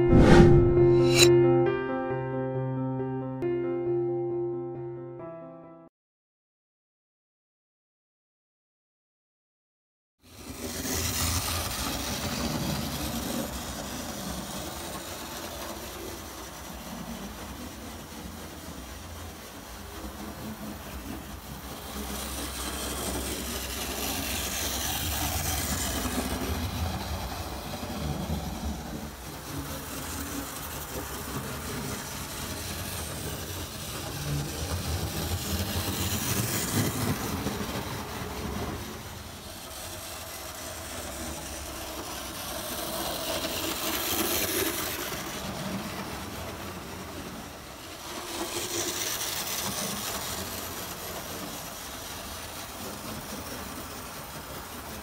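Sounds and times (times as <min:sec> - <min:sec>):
model train running on track: 0:10.3 - 0:55.0.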